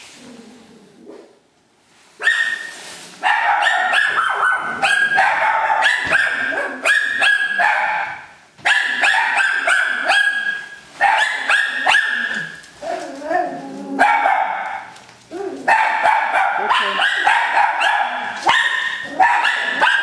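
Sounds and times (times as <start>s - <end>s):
dog yapping: 2.2s - 20.0s.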